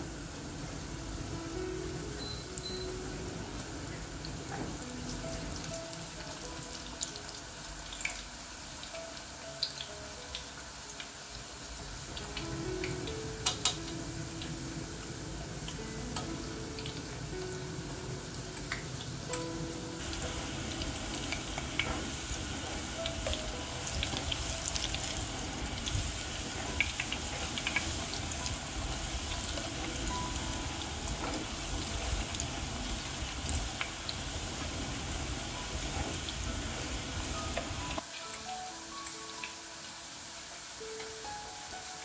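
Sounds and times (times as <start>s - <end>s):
slices deep-frying in hot oil: 0.0s - 42.0s.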